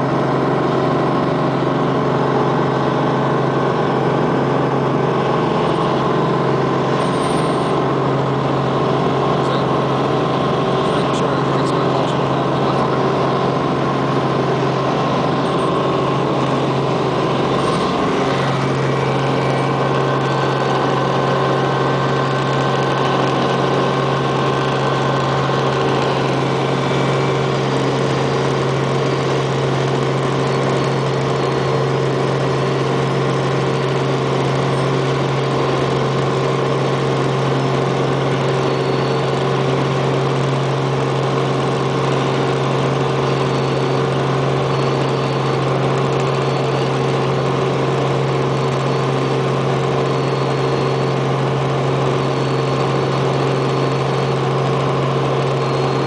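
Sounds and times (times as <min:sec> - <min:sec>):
helicopter engine and rotors drone: 0:00.0 - 0:56.0.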